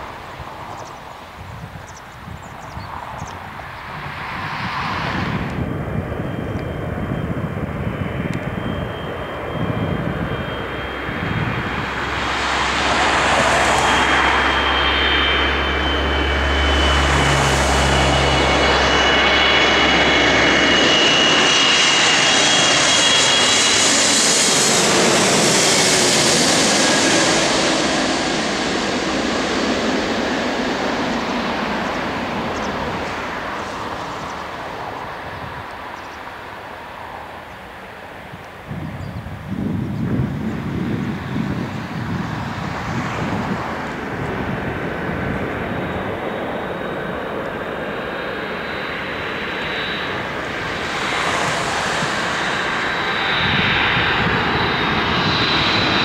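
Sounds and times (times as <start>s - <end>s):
jet airliner engine whine: 0.0s - 56.0s.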